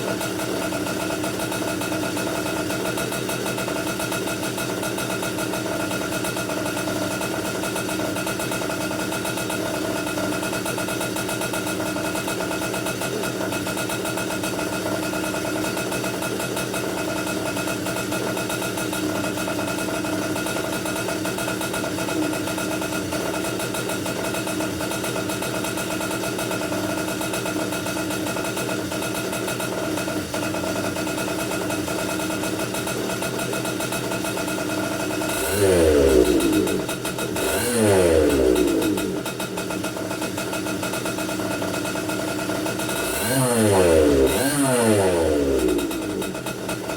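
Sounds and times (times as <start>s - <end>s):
kart engine running steadily: 0.0s - 46.9s.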